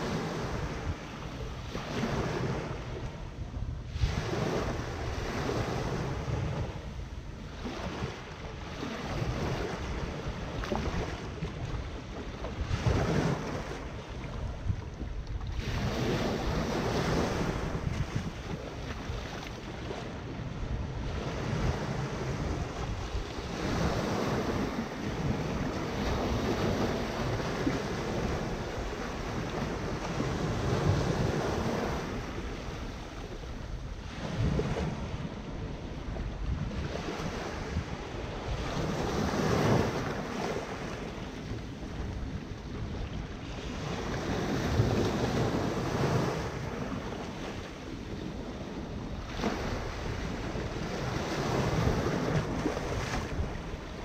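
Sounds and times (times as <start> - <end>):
small waves breaking on shore: 0.0 - 54.0
wind rumble on microphone: 0.0 - 54.0.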